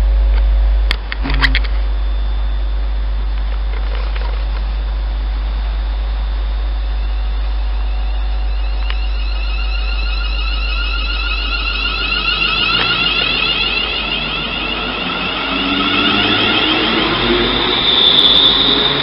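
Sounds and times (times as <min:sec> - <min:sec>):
train carriage rumble and hum: 0:00.1 - 0:19.0.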